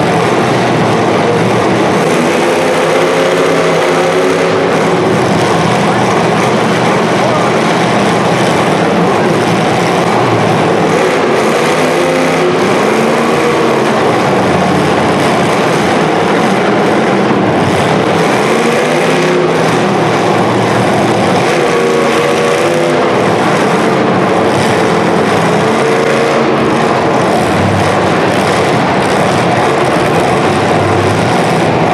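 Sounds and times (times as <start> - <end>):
car engines revving hard: 0.0 - 31.9
constant loud din: 0.0 - 31.9.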